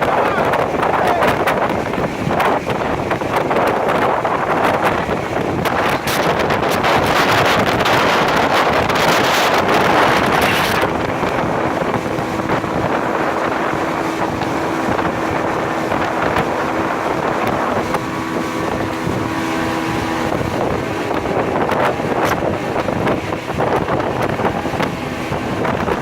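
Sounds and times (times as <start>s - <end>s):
motorboat engine running: 0.0s - 26.0s
wind buffeting the microphone: 0.0s - 26.0s.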